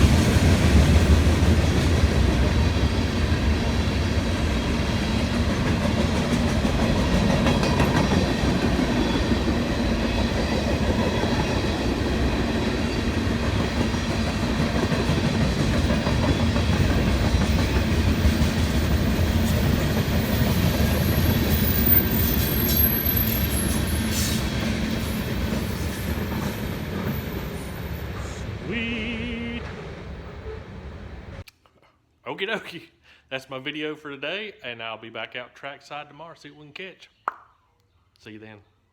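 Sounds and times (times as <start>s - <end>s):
freight train cars rolling: 0.0s - 31.4s.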